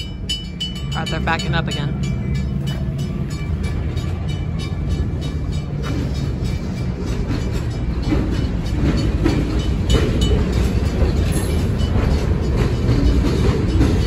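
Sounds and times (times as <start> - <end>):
locomotive rumble: 0.0 - 14.0
wheels clicking and knocking: 0.0 - 14.0.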